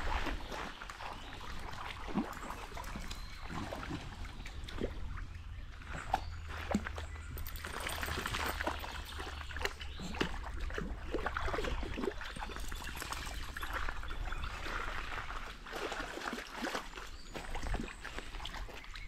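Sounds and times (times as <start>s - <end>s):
river water trickling: 0.0s - 19.0s.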